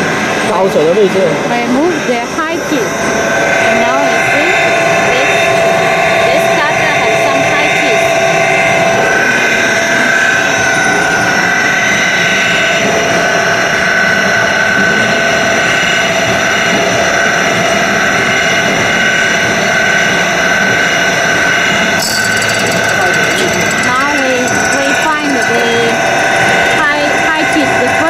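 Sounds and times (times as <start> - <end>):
grinding machine spindle whine: 0.0 - 28.0.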